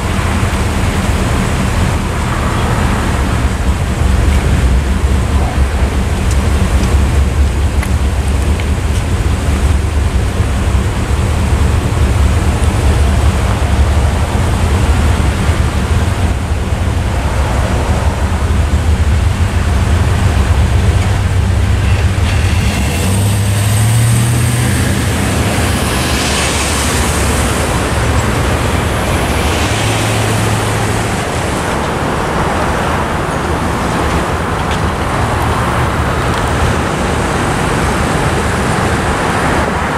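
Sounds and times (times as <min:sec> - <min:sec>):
engine idling: 0:00.0 - 0:39.3
traffic over railroad crossing: 0:00.0 - 0:39.9.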